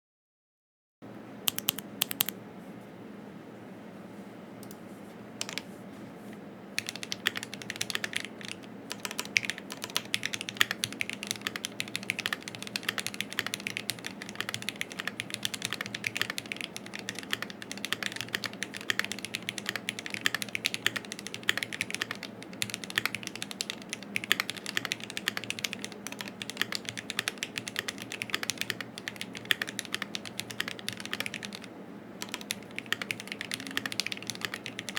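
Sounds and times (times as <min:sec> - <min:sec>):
mechanical keyboard typing: 0:01.5 - 0:02.4, 0:05.4 - 0:05.7, 0:06.8 - 0:34.9.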